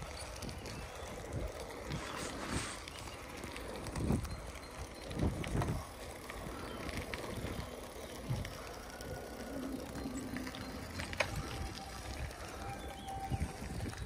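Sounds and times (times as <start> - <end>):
bicycle frame jolting: 0.0 - 14.0
bicycle tyres rolling on gravel: 0.0 - 14.0.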